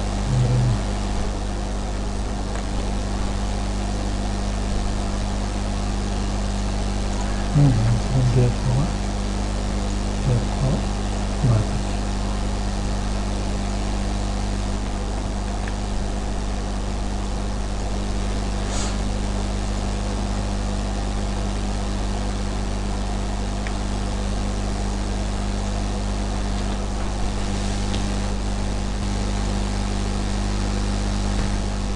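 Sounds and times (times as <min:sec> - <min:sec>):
electrical hum with hiss: 0:00.0 - 0:31.9.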